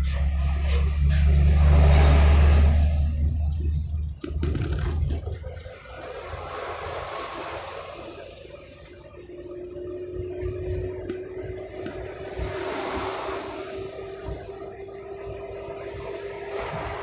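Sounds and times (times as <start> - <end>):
vehicle cabin road rumble: 0.0 - 17.0.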